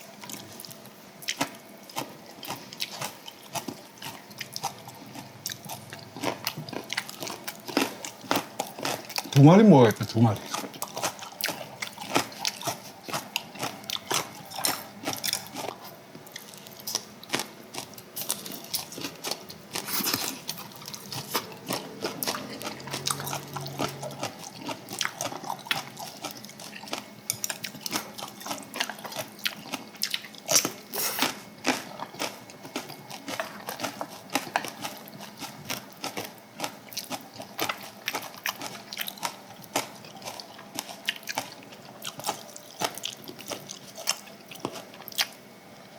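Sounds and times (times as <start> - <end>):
people chewing and biting: 0.0 - 45.5.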